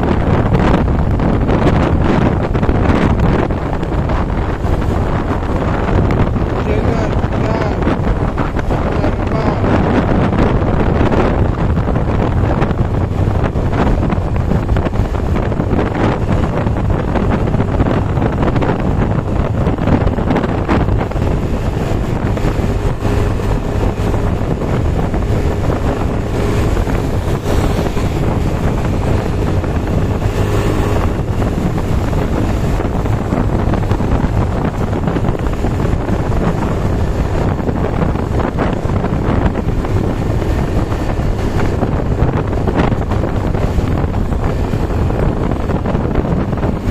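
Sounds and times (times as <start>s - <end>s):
low rumble: 0.0s - 46.9s
wind buffeting microphone: 0.0s - 46.9s.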